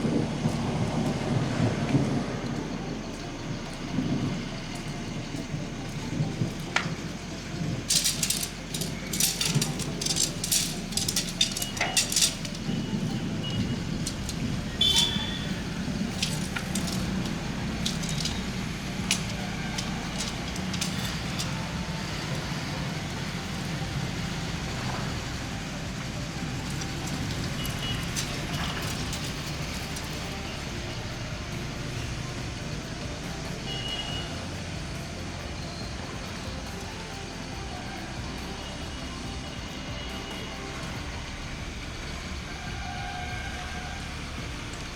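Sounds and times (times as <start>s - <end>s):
camping gear clicking and rattling: 0.0s - 44.9s
steady rain: 0.0s - 44.9s.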